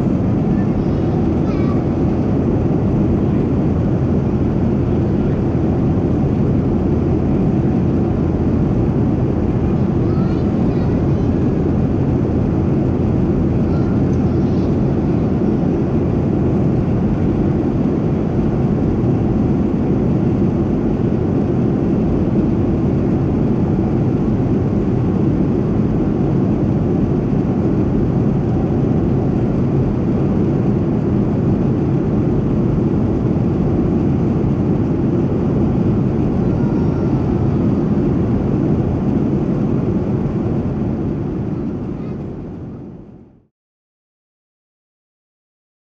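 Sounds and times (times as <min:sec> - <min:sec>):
airplane cabin engine noise: 0:00.0 - 0:43.5.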